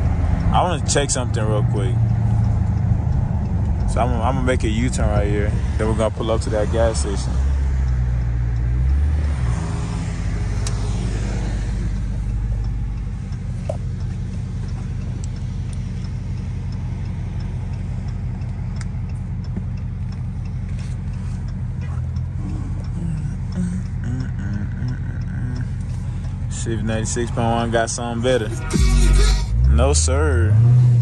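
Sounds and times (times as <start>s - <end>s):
car engine rumble: 0.0s - 31.0s.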